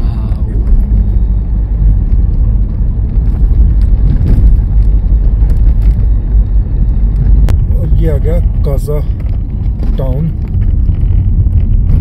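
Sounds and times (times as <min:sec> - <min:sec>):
car interior engine and road noise: 0:00.0 - 0:12.0.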